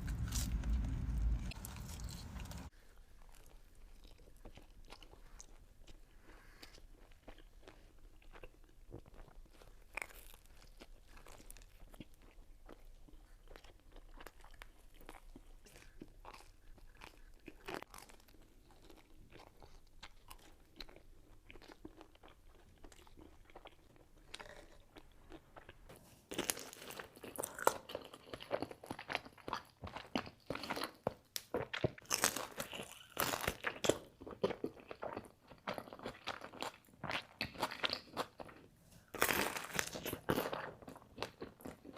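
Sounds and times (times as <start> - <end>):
chewing pizza: 0.0 - 41.9.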